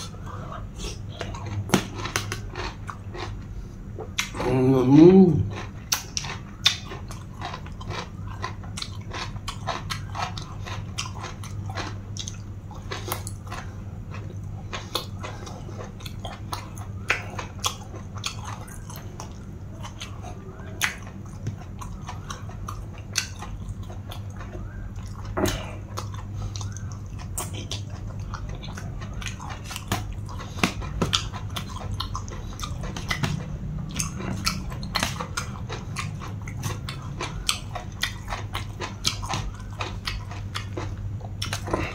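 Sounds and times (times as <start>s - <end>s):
chewing and crunching: 0.0s - 41.9s
steady low hum: 0.0s - 41.9s.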